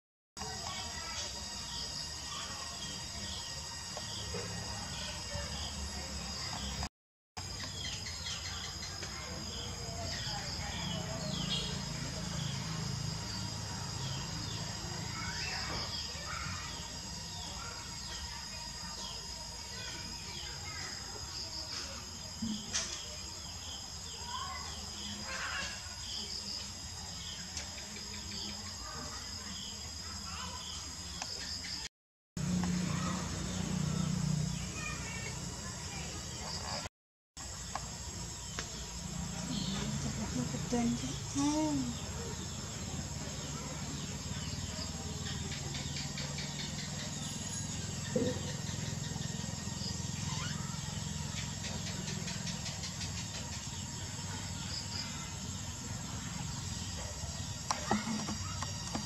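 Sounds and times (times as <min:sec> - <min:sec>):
insects trilling: 0:00.4 - 0:59.0.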